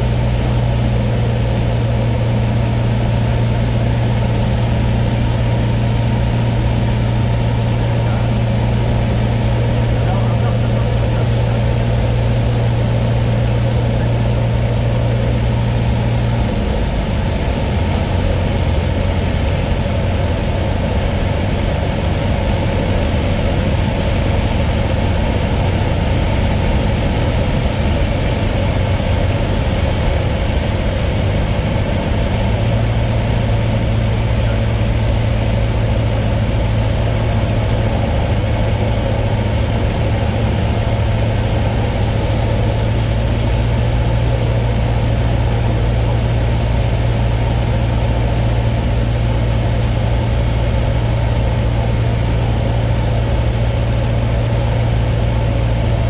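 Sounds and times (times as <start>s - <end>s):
small plane engine and propeller droning: 0.0s - 56.0s.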